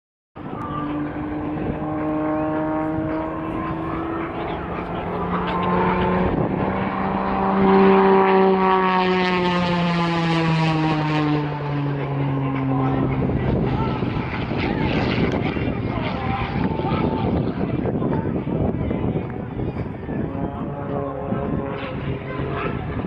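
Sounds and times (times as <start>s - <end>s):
propeller plane engine drone: 0.4s - 23.0s.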